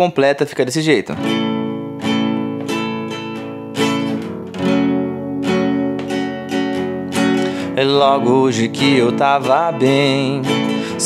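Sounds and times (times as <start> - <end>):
classical guitar strumming chords: 1.1 - 11.0.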